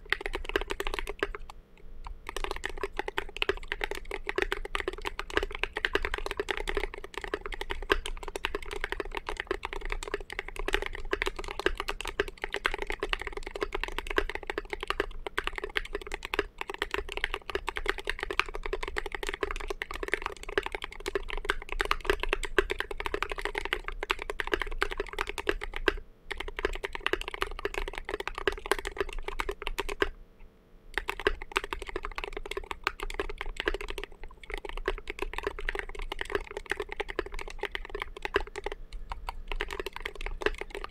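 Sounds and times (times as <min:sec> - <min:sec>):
typing on mechanical keyboard: 0:00.0 - 0:30.1, 0:30.9 - 0:40.9.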